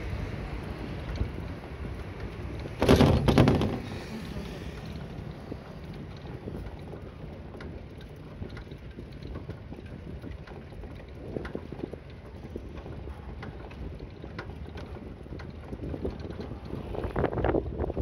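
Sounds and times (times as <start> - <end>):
light clicks and rattles: 0.0 - 18.0
wind buffeting microphone: 0.0 - 18.0.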